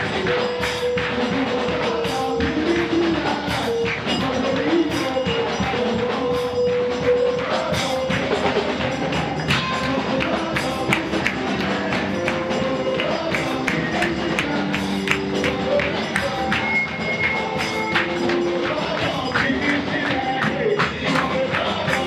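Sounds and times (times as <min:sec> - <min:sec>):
live praise music: 0:00.0 - 0:22.0.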